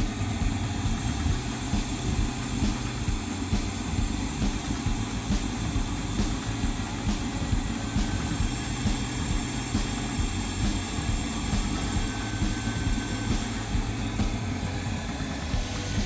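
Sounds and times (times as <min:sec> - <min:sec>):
vacuum cleaner motor running: 0:00.0 - 0:16.0.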